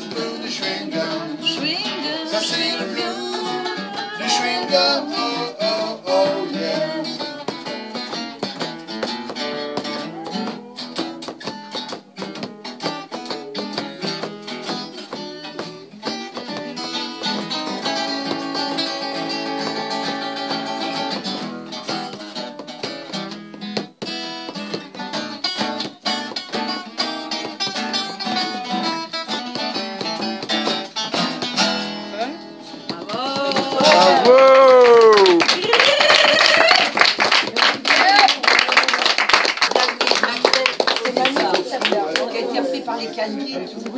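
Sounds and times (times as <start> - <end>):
acoustic guitars playing blues: 0.0 - 43.9.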